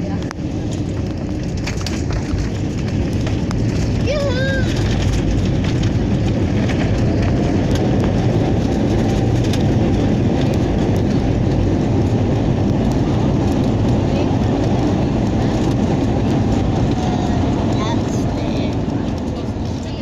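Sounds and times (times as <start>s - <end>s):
airliner cabin engine roar: 0.0s - 20.0s
wheels running on runway: 0.0s - 20.0s.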